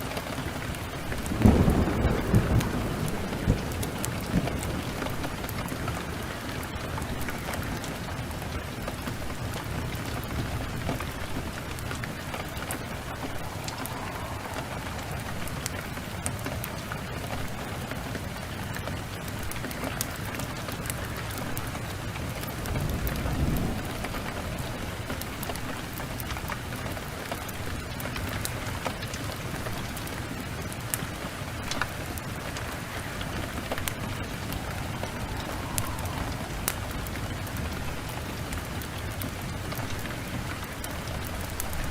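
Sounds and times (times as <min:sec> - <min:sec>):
heavy rain falling: 0:00.0 - 0:41.9
low rumble of thunder: 0:00.0 - 0:41.9.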